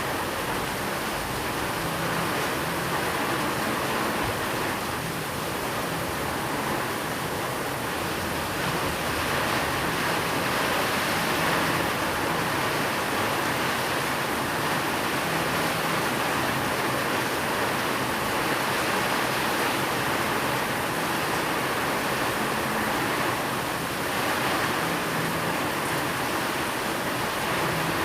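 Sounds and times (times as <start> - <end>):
heavy rainfall: 0.0 - 28.0.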